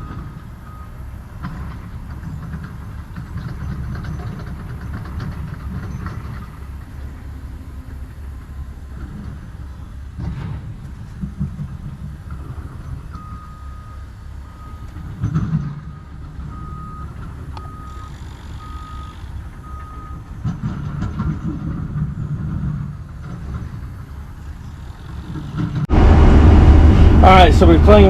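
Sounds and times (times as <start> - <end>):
drill rig diesel rumble: 0.0 - 28.0.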